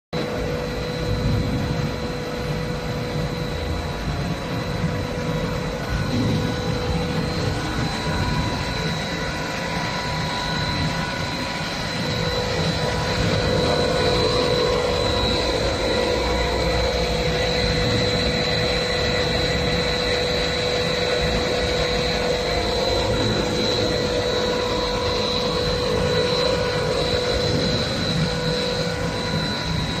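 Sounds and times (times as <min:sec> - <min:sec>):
high machine whine: 0:00.1 - 0:30.0
machine drone: 0:00.2 - 0:30.0.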